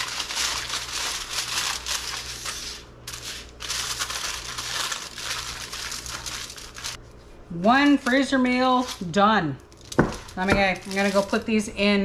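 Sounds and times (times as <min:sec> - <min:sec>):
aluminum foil crinkling: 0:00.0 - 0:07.0, 0:07.7 - 0:11.6.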